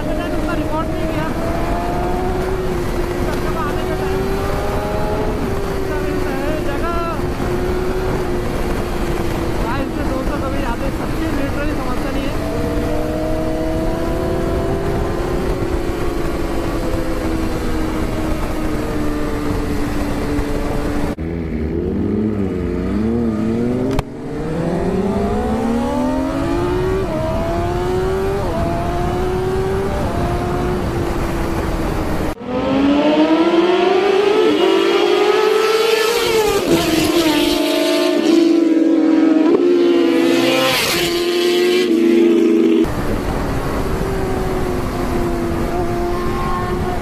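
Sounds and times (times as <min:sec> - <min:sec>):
motorcycle engine accelerating: 0:00.0 - 0:47.0
wind rushing over microphone: 0:00.0 - 0:47.0.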